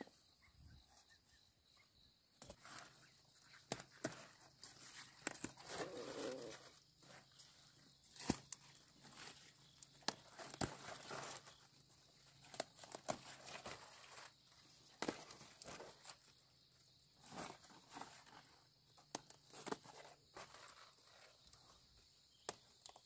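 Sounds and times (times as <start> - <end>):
rustling and snapping of plants: 2.4 - 16.4, 17.2 - 23.0.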